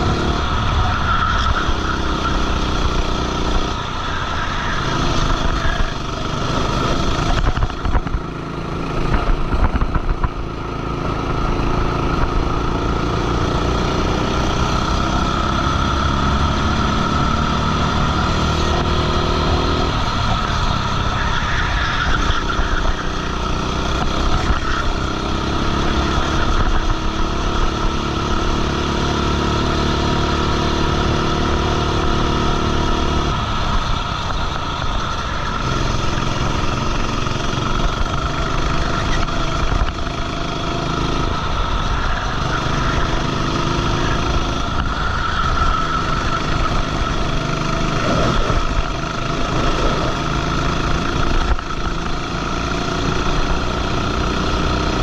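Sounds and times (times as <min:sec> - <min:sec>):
kart engine at speed: 0:00.0 - 0:55.0.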